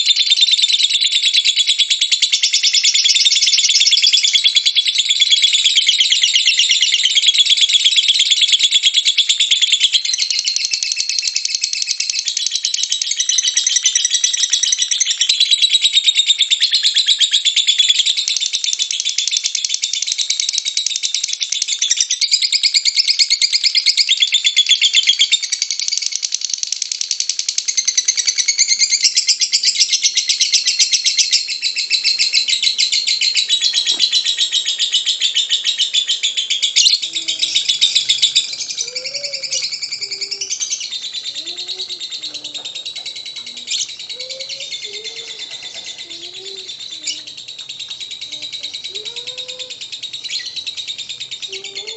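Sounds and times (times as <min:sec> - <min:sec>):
lovebird trilling: 0:00.0 - 0:51.9.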